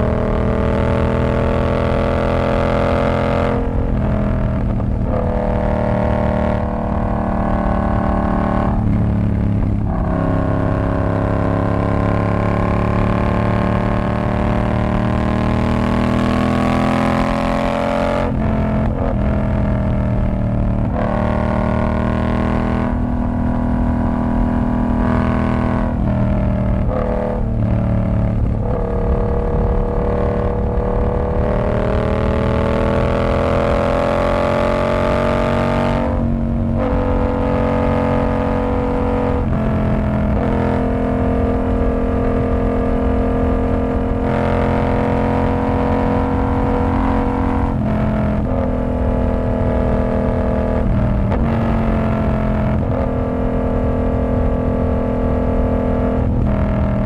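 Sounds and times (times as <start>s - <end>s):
motorcycle engine shifting gears: 0.0s - 56.9s.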